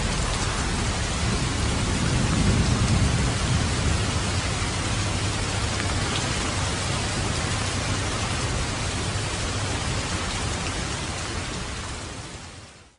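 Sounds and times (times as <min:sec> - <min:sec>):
heavy rain on water and trees: 0:00.0 - 0:12.9.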